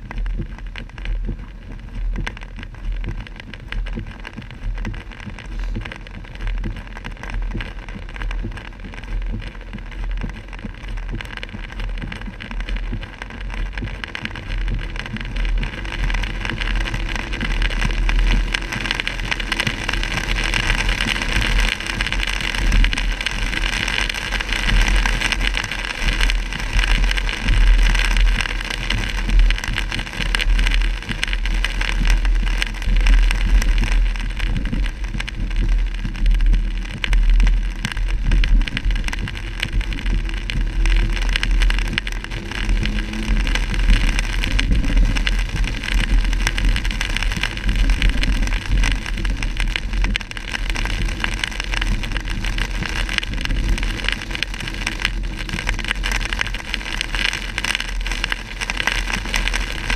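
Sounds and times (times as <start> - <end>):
rain on car windshield and roof: 0.0 - 59.9.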